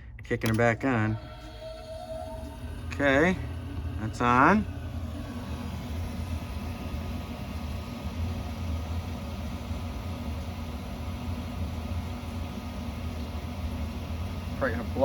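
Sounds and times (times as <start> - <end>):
heater motor hum: 0.0 - 15.0.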